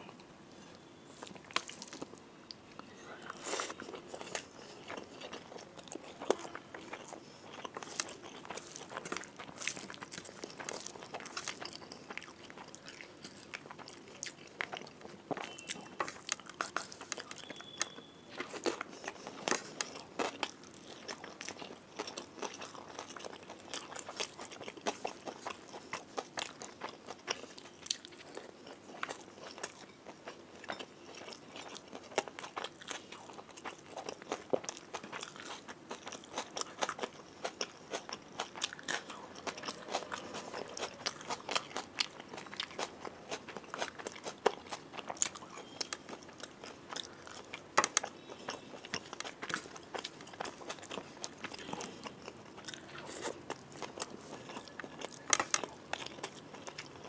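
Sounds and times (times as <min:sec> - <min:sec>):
person chewing and crunching: 0:01.1 - 0:57.0.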